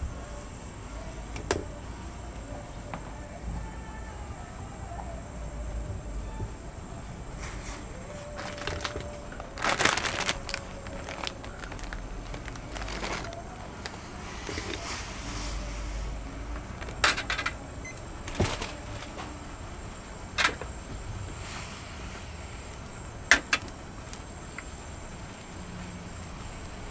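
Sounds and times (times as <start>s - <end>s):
low background hum: 0.0s - 26.9s.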